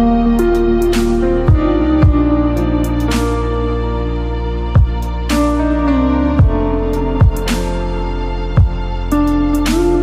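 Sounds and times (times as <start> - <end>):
slow sad music: 0.0 - 10.0.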